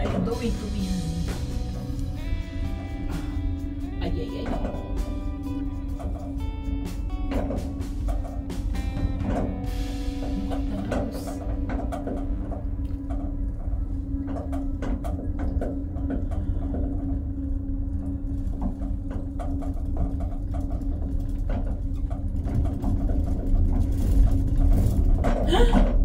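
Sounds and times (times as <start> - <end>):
cable car cabin rumble and hum: 0.0 - 26.0.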